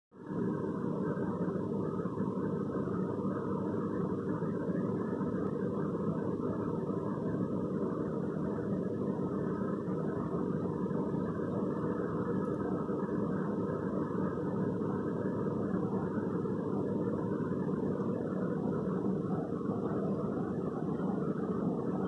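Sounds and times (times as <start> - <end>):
low machine drone: 0.2 - 22.0.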